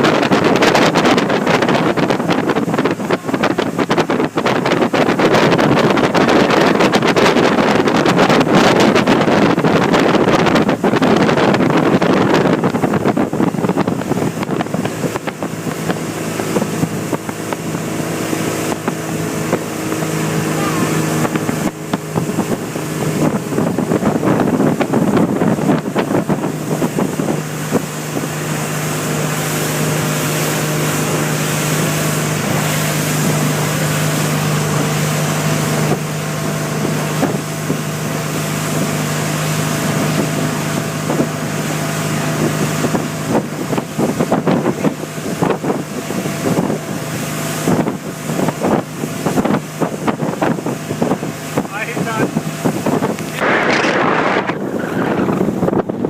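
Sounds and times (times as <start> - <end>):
hull slapping on water: 0.0 - 56.0
speedboat engine running: 0.0 - 56.0
water rushing: 0.0 - 56.0
wind buffeting microphone: 0.0 - 56.0.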